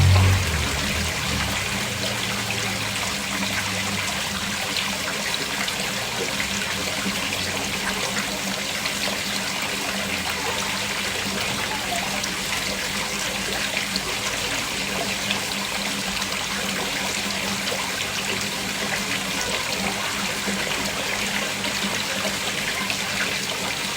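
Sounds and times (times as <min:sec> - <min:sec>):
water splashing into pond: 0:00.0 - 0:23.9.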